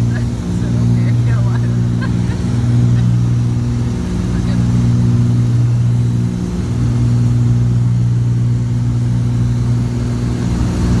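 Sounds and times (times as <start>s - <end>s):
aircraft engines droning: 0.0s - 11.0s.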